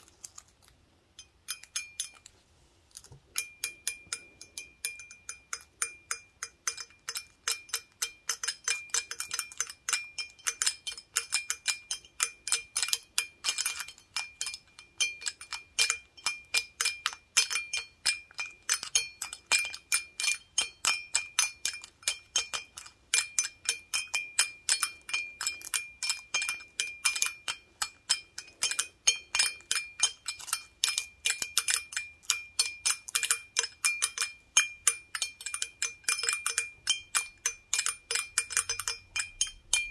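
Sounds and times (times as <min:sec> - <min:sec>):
toothpicks tapping glass: 0:01.2 - 0:02.3, 0:03.3 - 0:39.9.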